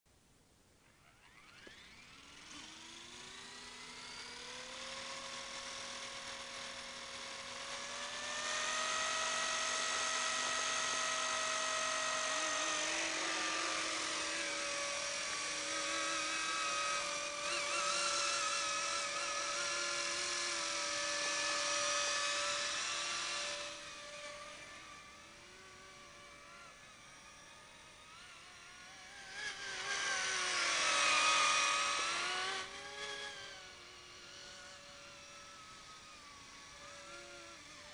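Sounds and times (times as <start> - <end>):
toy helicopter rotor whine: 0.8 - 37.9.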